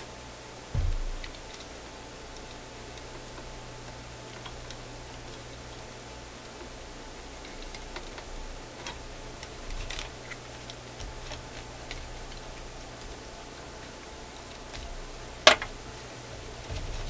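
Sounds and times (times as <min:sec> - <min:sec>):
faint low hum: 0:00.0 - 0:17.0
steady hiss: 0:00.0 - 0:17.0.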